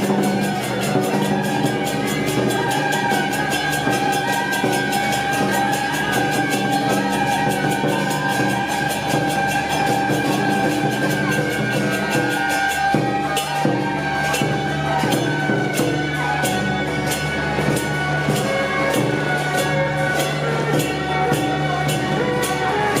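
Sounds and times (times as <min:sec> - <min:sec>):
regular percussion beat: 0:00.0 - 0:23.0.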